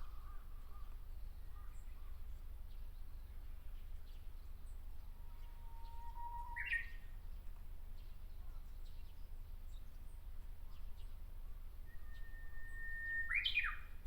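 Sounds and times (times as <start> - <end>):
bush warbler whistled song: 0.0 - 14.0.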